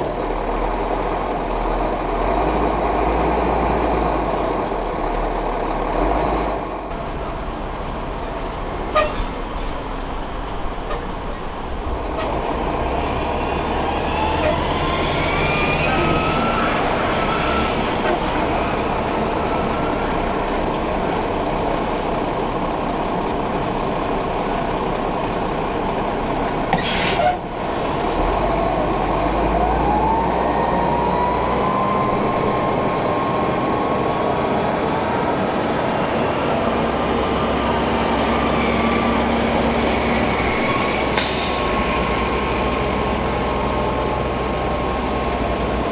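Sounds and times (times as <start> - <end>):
road noise: 0.0 - 45.9
truck engine: 0.0 - 45.9.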